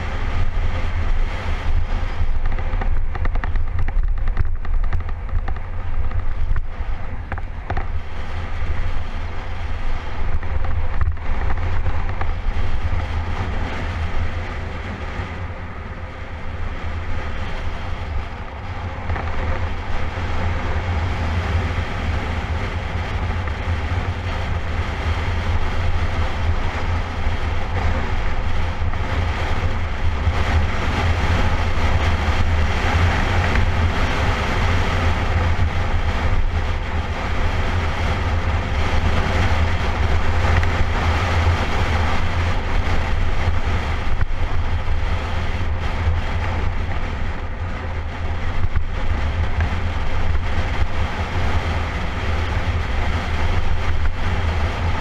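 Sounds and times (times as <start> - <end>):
wind buffeting on microphone: 0.0 - 55.0.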